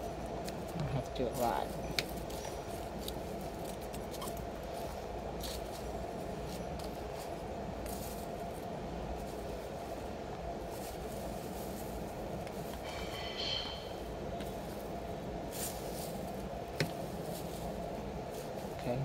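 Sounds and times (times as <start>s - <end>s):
low city background hum: 0.0s - 19.0s
shredded paper rustling: 0.4s - 13.3s, 13.9s - 19.0s.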